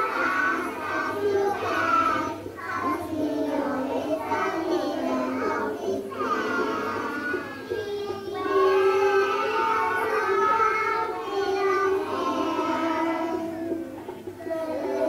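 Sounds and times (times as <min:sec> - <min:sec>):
music: 0:00.0 - 0:15.0
young children singing: 0:00.0 - 0:15.0.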